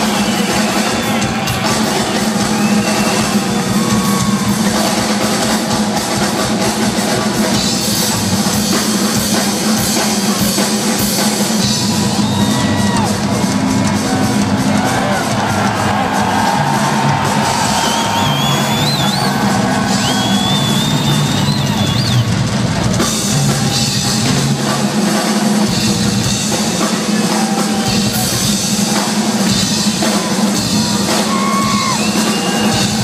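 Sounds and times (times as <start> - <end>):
live rock drum solo: 0.0 - 33.0.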